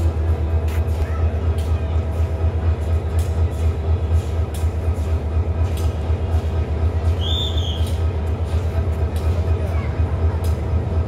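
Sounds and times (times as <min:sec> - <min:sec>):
passenger train rumbling past: 0:00.0 - 0:11.0
wheels clacking over rail joints: 0:00.0 - 0:11.0.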